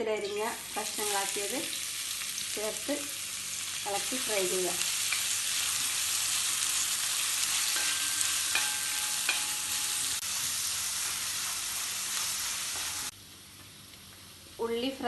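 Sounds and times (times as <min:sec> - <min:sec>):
onions sizzling in hot fat: 0:00.0 - 0:15.0.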